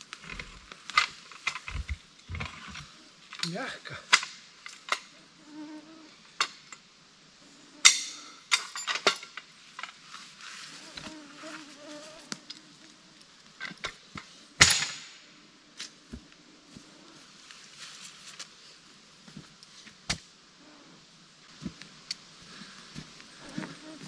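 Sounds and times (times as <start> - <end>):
faint steady buzz: 0.0 - 24.0.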